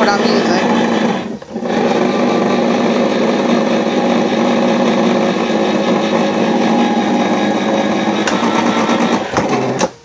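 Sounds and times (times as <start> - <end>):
electric can opener running: 0.0 - 10.0.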